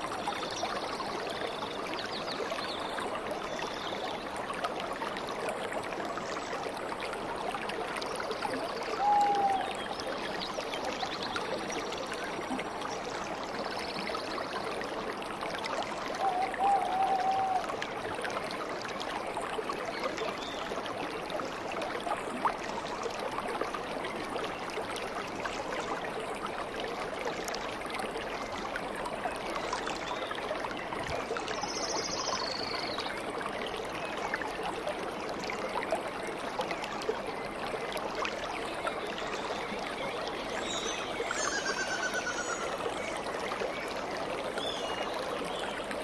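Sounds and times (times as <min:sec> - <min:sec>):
stream babbling: 0:00.0 - 0:46.0.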